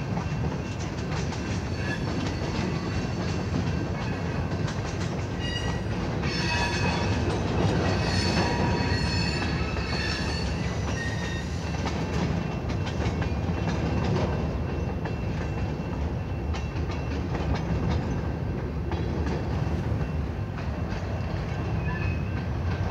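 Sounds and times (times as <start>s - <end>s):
freight train rumbling: 0.0s - 22.9s
wheels clicking over rail joints: 0.0s - 22.9s.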